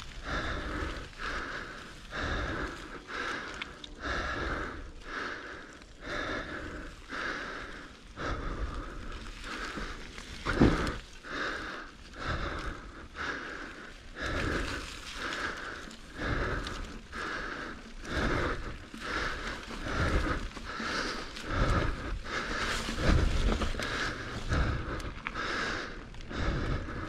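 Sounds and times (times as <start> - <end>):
person breathing hard: 0.0 - 27.0.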